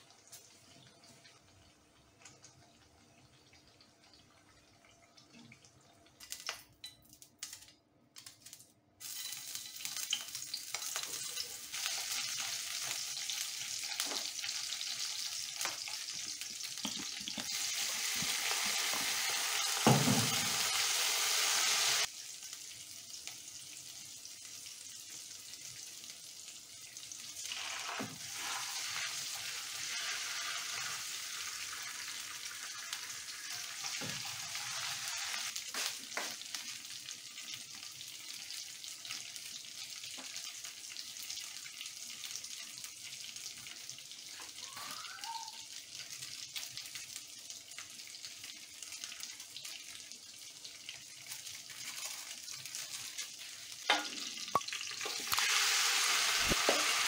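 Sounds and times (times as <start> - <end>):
onions sizzling in oil: 9.0 - 57.0.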